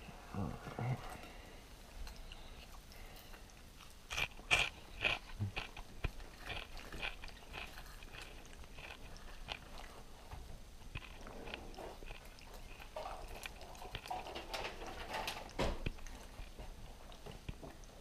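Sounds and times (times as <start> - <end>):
crispy fried fish crunching: 2.0 - 18.0.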